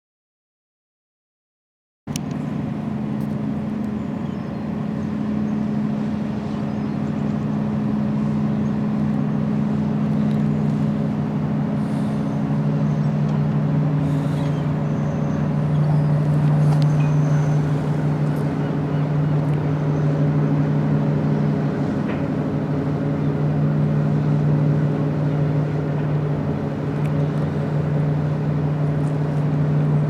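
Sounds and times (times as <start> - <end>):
large engine droning: 2.1 - 30.0.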